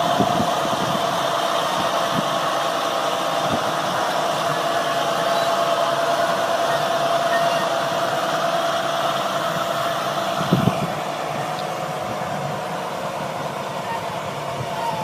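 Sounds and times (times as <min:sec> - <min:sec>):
machine engine running: 0:00.0 - 0:15.0
thin steady whine: 0:00.0 - 0:15.0.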